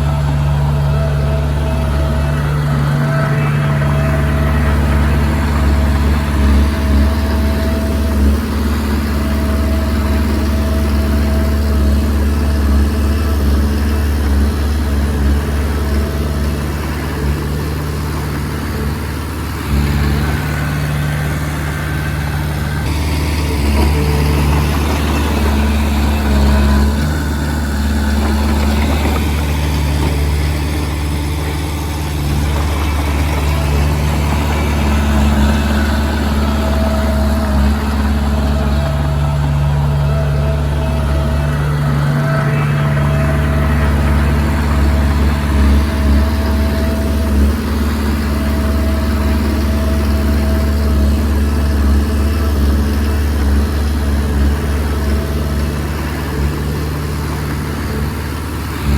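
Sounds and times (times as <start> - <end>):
bulldozer diesel engine under load: 0.0 - 58.9.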